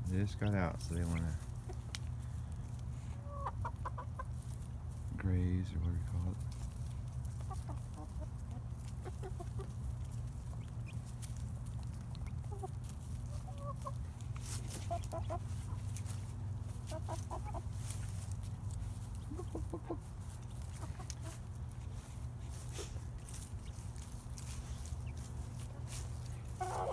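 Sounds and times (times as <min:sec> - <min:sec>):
steady low rumble: 0:00.0 - 0:26.6
chickens clucking: 0:00.0 - 0:26.9.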